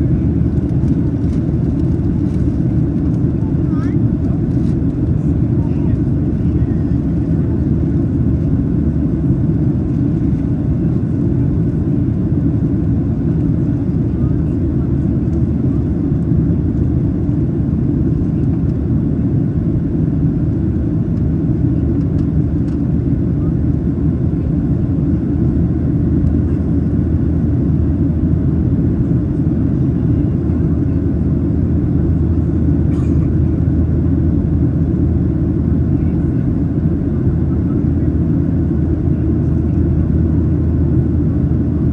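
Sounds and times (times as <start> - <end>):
airplane cabin engine roar: 0.0 - 41.9.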